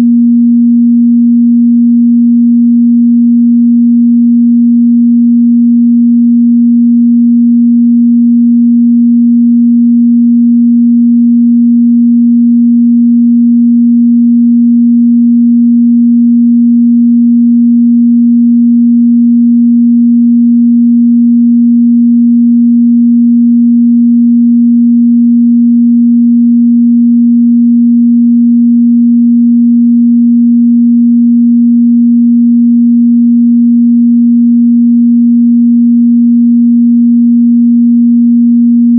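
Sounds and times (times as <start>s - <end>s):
pure sine test tone: 0.0s - 38.9s.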